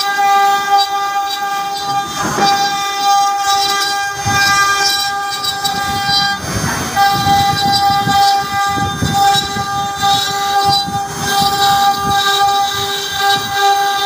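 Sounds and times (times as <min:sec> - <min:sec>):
router spindle whine: 0:00.0 - 0:14.0
wood cutting rumble: 0:00.0 - 0:14.0.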